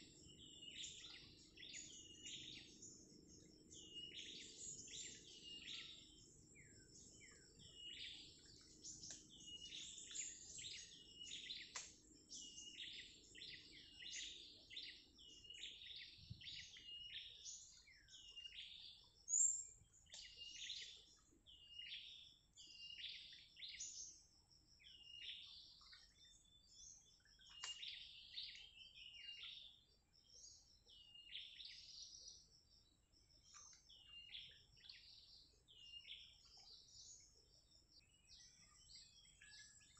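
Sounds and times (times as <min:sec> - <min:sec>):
birds chirping: 0:00.0 - 0:24.2, 0:24.8 - 0:32.8, 0:33.4 - 0:39.9.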